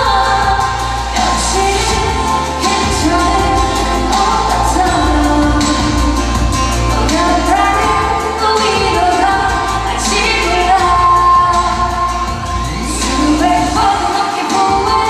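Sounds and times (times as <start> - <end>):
pop music accompaniment: 0.0 - 15.0
woman singing: 0.0 - 15.0.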